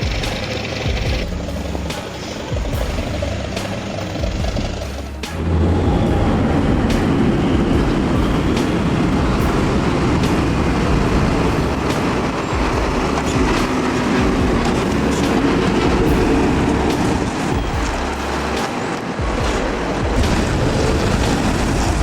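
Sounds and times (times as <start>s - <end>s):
heavy vehicle running loudly: 0.0s - 22.0s.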